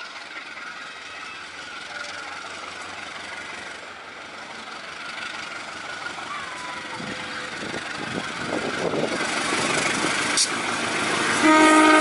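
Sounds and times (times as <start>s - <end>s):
locomotive engine rumble: 0.0s - 12.0s
wheel on rail noise: 0.0s - 12.0s.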